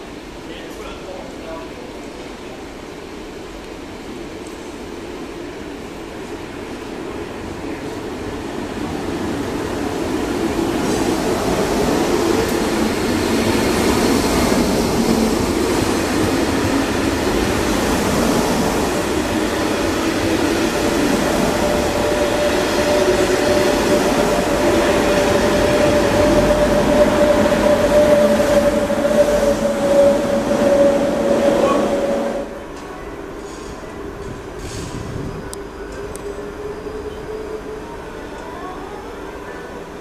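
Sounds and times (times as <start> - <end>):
train wheels rumbling on rails: 3.5 - 38.5.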